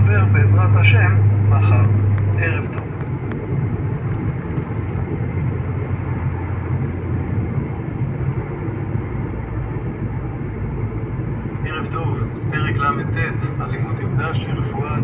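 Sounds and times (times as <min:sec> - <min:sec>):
vehicle rumble and road noise: 0:00.0 - 0:15.0.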